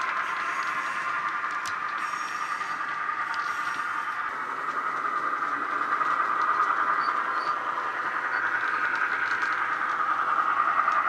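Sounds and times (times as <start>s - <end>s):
diesel engine running through small speaker: 0.0s - 11.0s.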